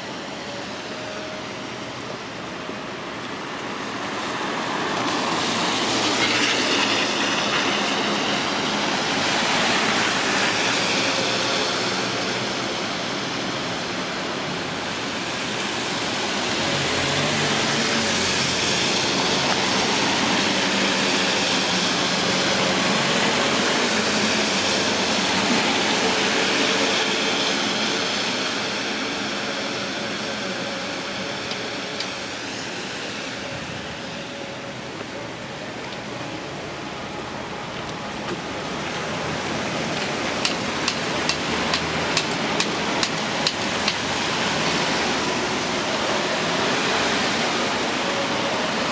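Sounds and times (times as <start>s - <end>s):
tyres hissing on wet road: 0.0s - 48.9s.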